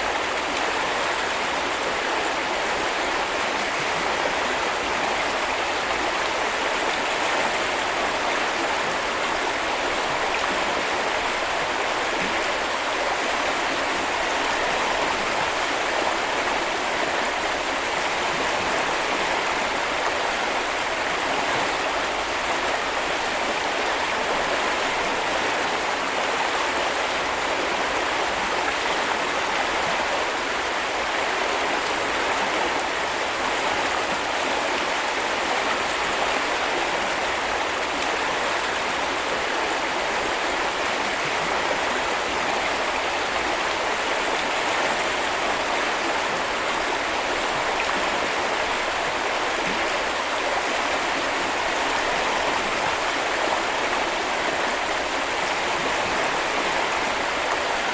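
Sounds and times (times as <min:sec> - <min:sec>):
brook flowing over stones: 0:00.0 - 0:57.9.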